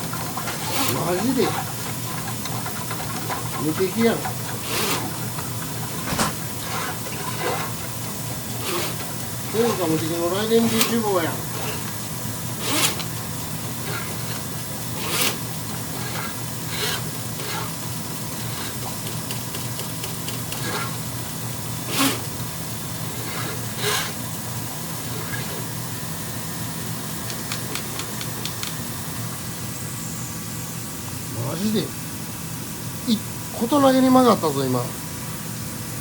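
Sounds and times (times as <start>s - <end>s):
drain cleaner motor humming: 0.0s - 31.9s.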